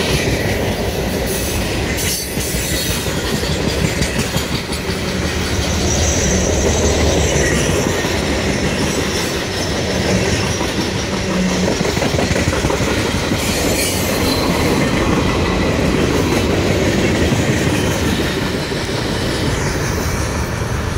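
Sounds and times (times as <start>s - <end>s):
freight train rumbling past: 0.0s - 20.9s.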